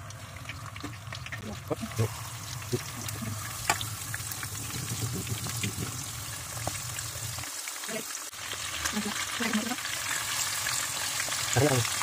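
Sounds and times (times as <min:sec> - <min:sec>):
meat sizzling in hot oil: 0:00.0 - 0:12.0
oil popping and crackling: 0:00.0 - 0:12.0.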